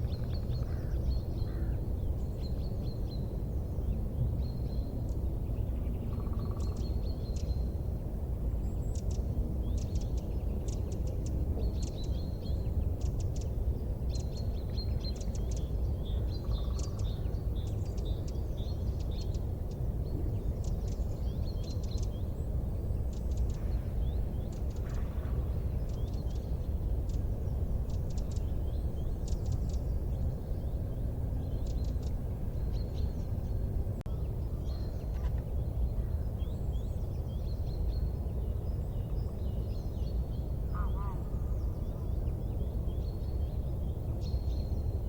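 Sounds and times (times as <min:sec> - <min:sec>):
low rumbling noise: 0:00.0 - 0:45.0
small birds chirping: 0:08.5 - 0:45.0.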